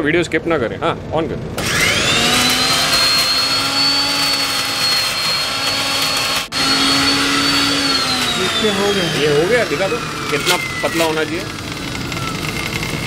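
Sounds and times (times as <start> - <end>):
mixer grinder whining: 1.6 - 13.0.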